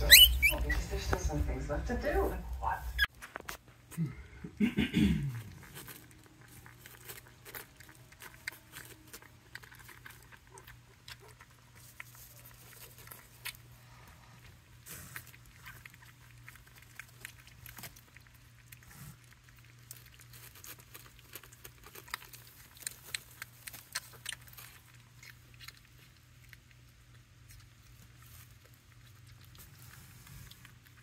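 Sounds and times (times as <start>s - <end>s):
puppies crunching kibble: 0.0s - 4.0s, 5.3s - 31.0s.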